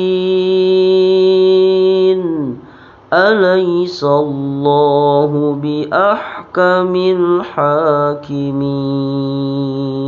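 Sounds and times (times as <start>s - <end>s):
man reciting in chant: 0.0s - 10.0s.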